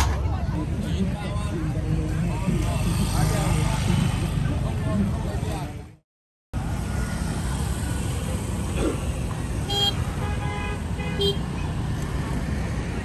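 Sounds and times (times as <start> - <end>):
passing vehicles rumbling: 0.0 - 6.0, 6.6 - 13.0.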